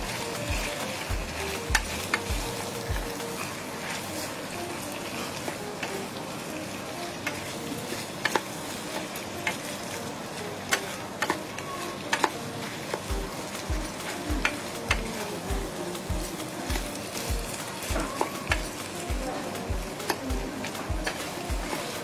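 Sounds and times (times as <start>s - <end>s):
vegetables sizzling in a pan: 0.0s - 22.0s.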